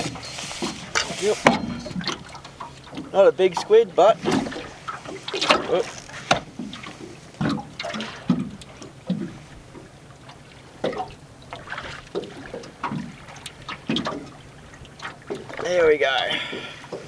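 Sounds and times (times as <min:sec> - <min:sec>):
water splashing against a boat hull: 0:00.0 - 0:17.0.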